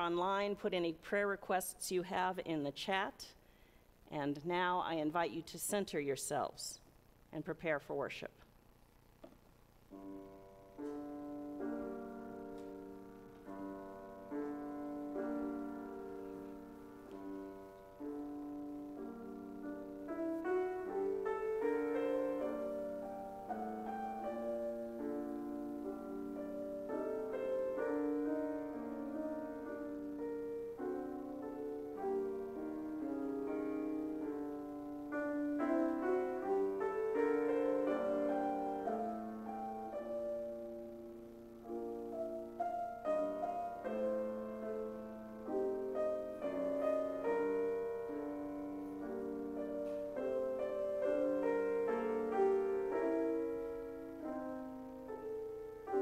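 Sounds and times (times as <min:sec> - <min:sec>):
slow solo piano: 0:09.9 - 0:56.0.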